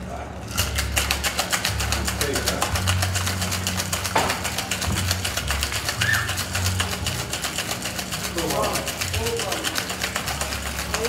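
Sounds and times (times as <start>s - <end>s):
ice rattling in cocktail shaker: 0.5s - 11.0s.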